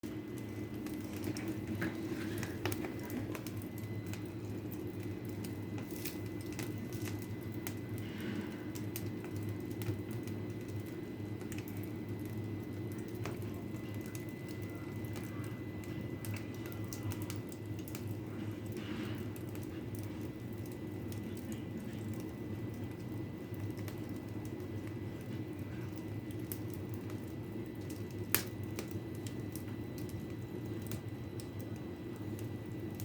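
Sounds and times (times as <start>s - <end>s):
fireplace fire crackling: 0.0s - 33.0s.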